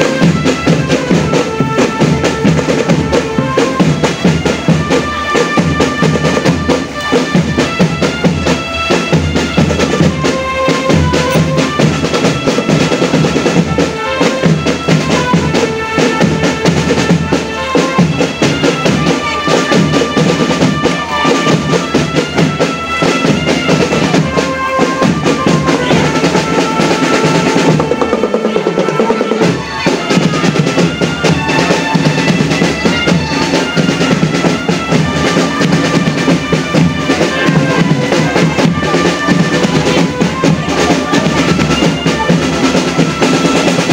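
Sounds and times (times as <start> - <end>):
marching drum band: 0.0 - 43.9
reedy melody line: 0.0 - 43.9.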